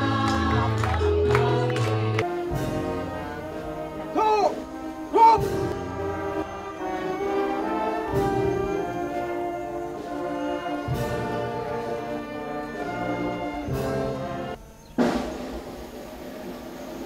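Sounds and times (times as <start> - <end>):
brass band slow chords: 0.0 - 17.0.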